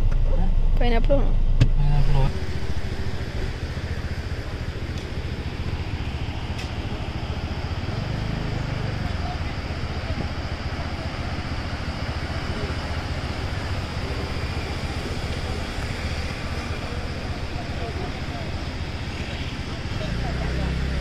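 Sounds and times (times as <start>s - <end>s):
low rumble: 0.0s - 17.7s
faint distant voices: 2.3s - 21.0s.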